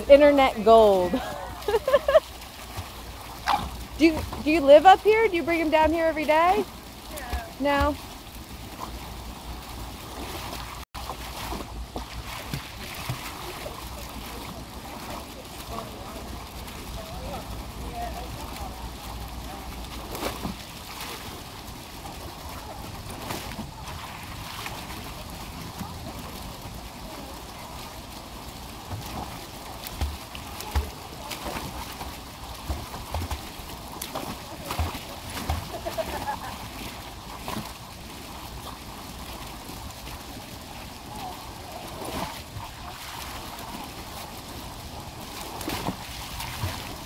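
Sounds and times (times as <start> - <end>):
dog paddling through water: 0.0 - 47.0
fountain splashing into pool: 0.0 - 47.0.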